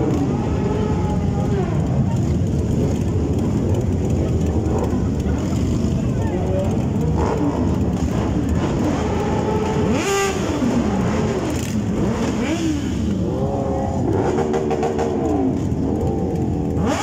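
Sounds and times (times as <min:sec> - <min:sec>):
motorcycle engines idling: 0:00.0 - 0:17.0
motorcycle engines revving: 0:00.0 - 0:17.0.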